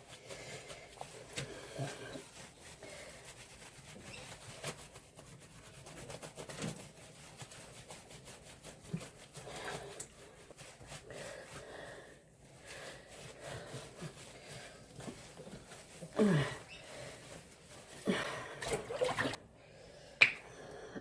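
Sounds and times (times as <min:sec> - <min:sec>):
hands scrubbing wet dog's coat: 0:00.0 - 0:19.4.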